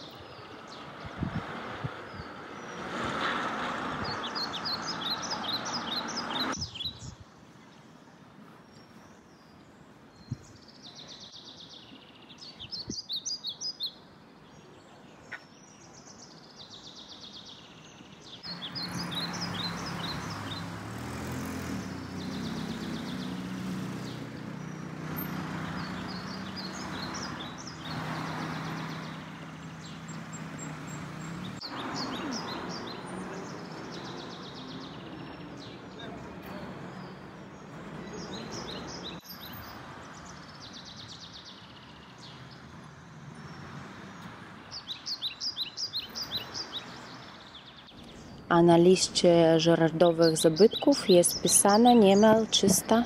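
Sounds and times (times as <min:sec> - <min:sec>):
road traffic hum: 0:00.0 - 0:53.0
small birds chirping: 0:00.0 - 0:53.0.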